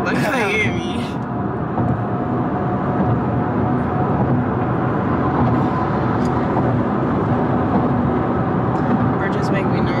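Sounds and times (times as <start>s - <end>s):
car road noise: 0.0s - 10.0s.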